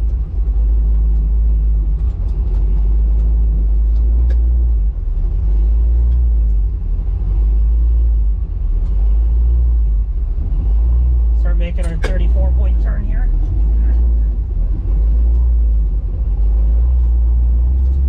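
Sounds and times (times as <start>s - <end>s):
car engine exhaust drone: 0.0s - 18.0s.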